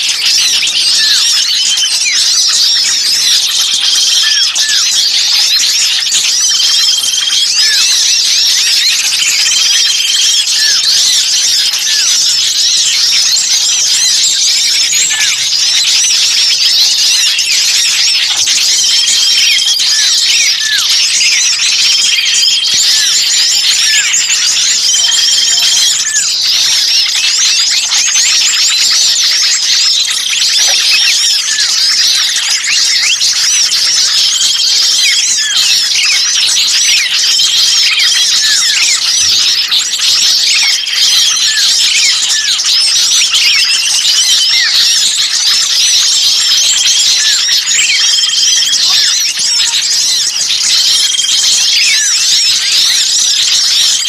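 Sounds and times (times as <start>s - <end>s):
songbirds chattering and chirping: 0.0s - 54.0s.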